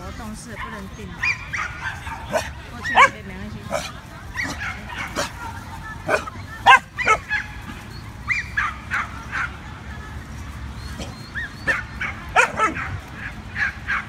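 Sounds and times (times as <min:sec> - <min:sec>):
dogs yipping: 0:00.0 - 0:09.7, 0:10.8 - 0:14.0.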